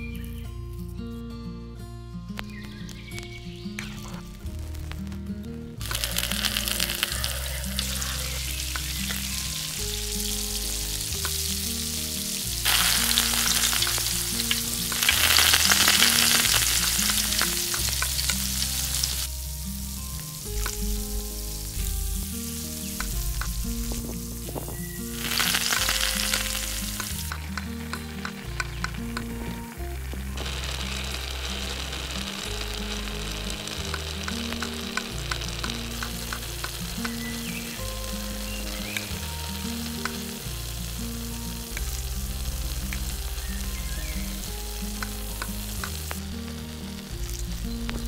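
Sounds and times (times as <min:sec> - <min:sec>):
food sizzling in ghee: 0:02.4 - 0:48.0.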